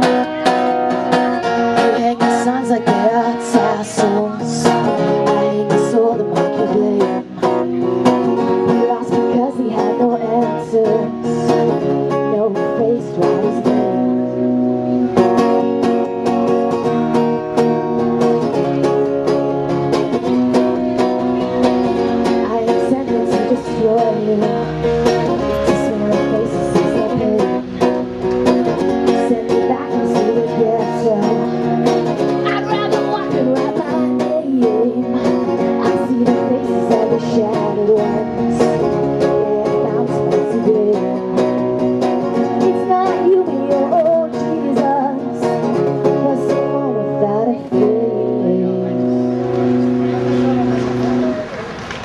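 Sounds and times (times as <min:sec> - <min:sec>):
acoustic band playing: 0:00.0 - 0:52.0.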